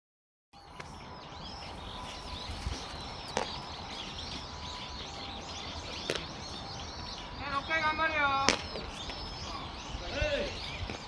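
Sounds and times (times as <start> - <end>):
small birds chirping: 0.6 - 11.0.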